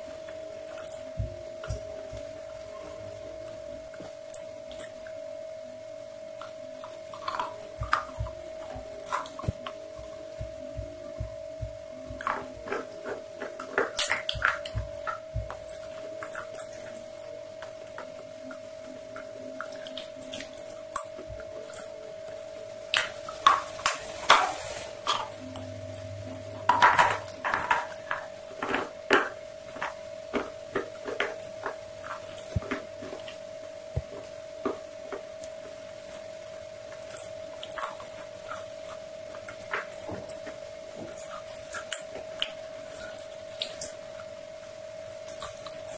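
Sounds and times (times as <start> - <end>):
steady tone: 0.0 - 45.9
crunching and chewing fried chicken: 6.4 - 25.7, 26.6 - 45.9.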